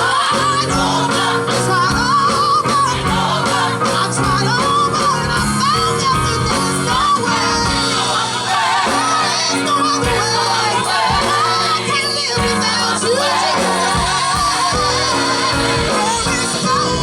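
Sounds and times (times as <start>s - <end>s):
band with bass and drums: 0.0s - 17.0s
lead singer with vibrato: 0.0s - 17.0s.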